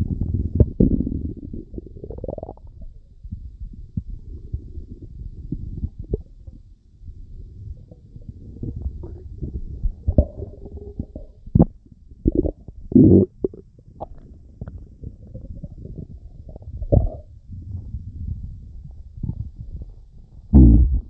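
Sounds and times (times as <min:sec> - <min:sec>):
stomach rumbling and gurgling: 0:00.0 - 0:21.0.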